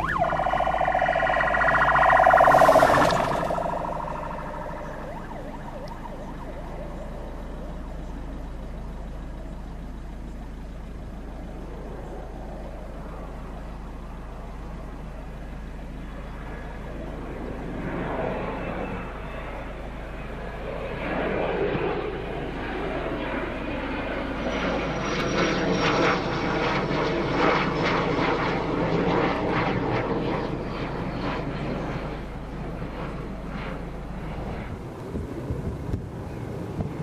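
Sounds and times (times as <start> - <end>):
distant jet engines rushing: 0.0 - 37.0
faint wavering siren: 0.0 - 37.0.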